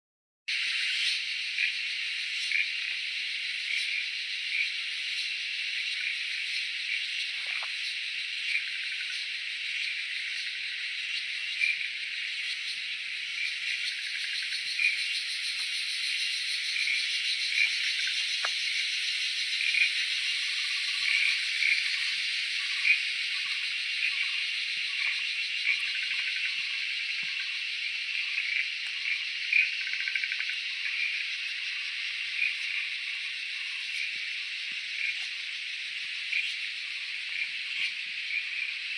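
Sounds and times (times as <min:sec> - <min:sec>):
insect chorus buzzing: 0:00.5 - 0:38.9.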